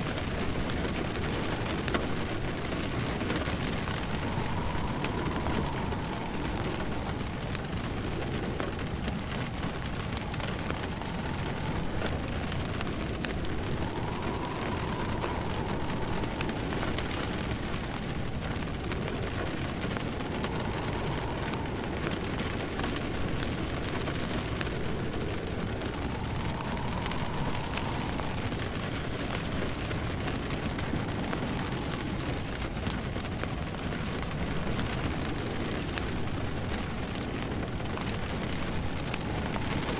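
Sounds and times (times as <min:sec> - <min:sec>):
crackling fireplace: 0:00.0 - 0:39.9
steady rain: 0:00.0 - 0:39.9
wind howling: 0:00.0 - 0:39.9.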